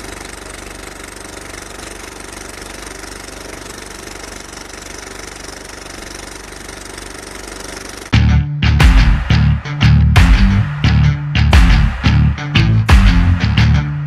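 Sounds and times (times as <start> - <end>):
pulsing engine-like drone: 0.0 - 14.0.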